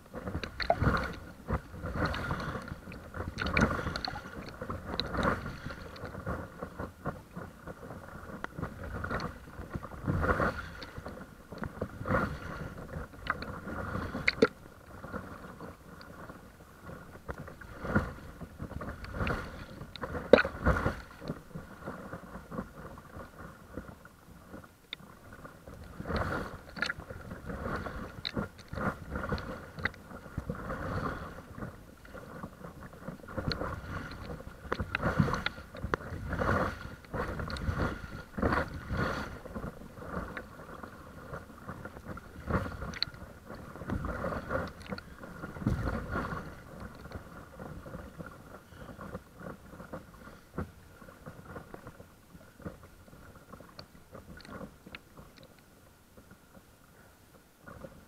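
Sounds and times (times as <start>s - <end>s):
faint steady whine: 0.0s - 58.0s
small waves slapping board: 0.0s - 58.0s.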